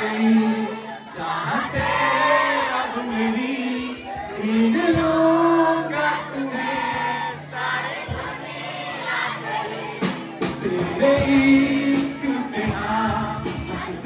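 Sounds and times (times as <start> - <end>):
music: 0.0 - 14.0
several voices singing: 0.0 - 14.0.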